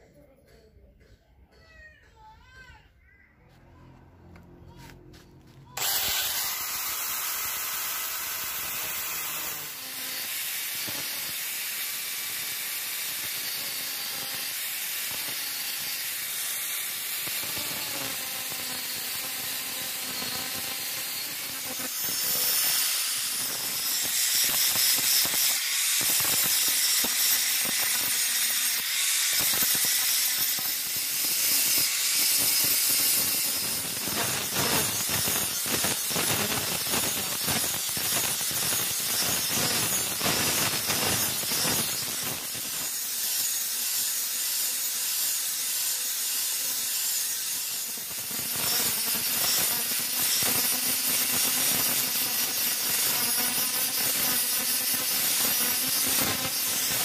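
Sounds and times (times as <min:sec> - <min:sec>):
angle grinder cutting metal: 0:03.6 - 0:57.0.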